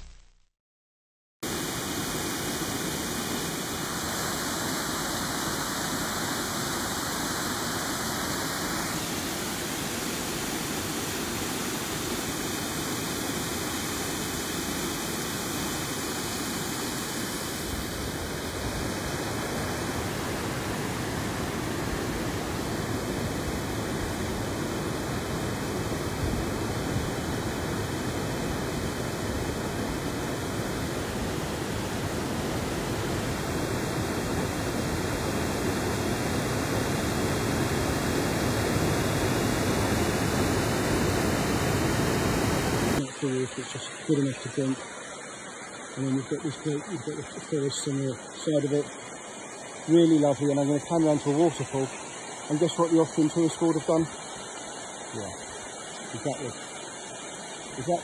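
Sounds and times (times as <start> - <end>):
waterfall rushing: 1.5 - 58.0.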